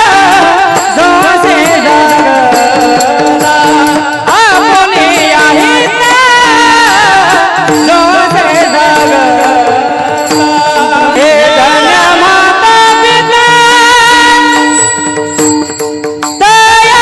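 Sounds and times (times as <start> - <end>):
man singing: 0.0 - 14.9, 16.4 - 17.0.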